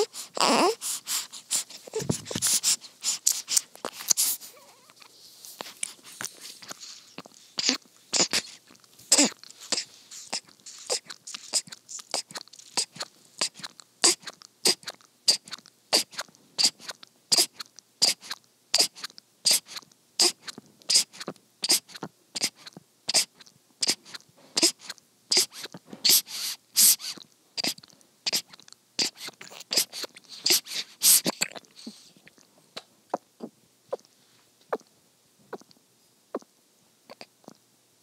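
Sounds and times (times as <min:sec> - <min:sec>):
baby sucking on a bottle: 0:00.0 - 0:34.1, 0:37.1 - 0:37.6.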